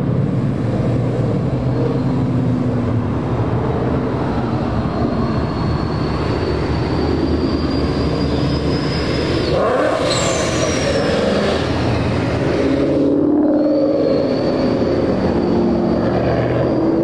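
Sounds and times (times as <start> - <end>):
car engines rumbling past: 0.0 - 17.0.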